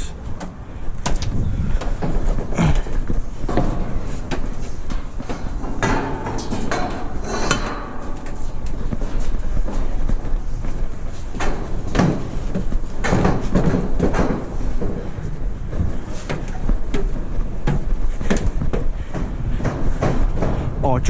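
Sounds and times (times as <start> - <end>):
clunks and knocks: 0.0 - 21.0
rustling: 0.3 - 20.8.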